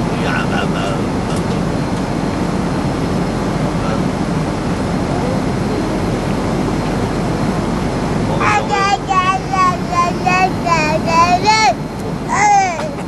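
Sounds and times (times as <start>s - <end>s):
airliner engine drone: 0.0s - 13.0s.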